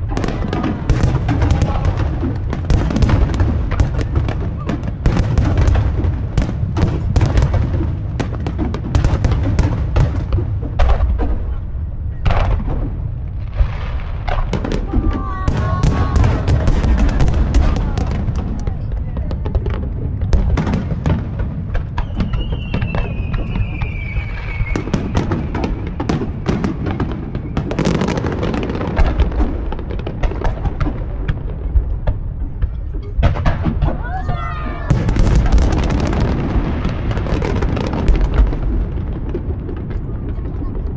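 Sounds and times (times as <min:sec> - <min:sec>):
fireworks crackling: 0:00.0 - 0:32.4, 0:33.1 - 0:40.9
fireworks booming: 0:00.0 - 0:40.9.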